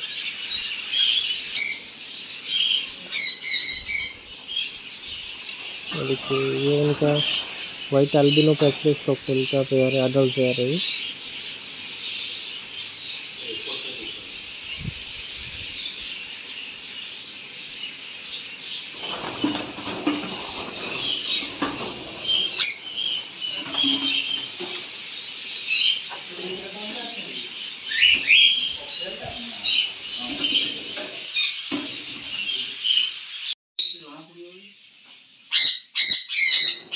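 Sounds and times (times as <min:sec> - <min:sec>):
small parrots chirping and chattering: 0:00.0 - 0:36.9.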